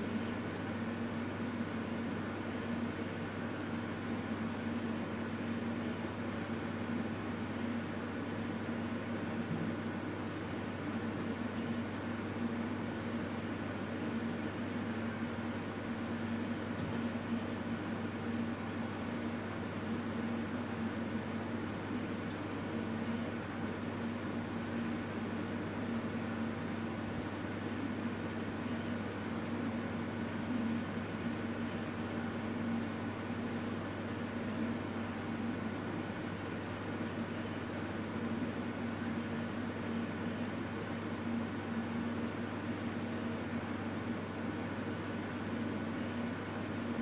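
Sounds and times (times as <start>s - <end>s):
gas heater burning hiss: 0.0s - 47.0s.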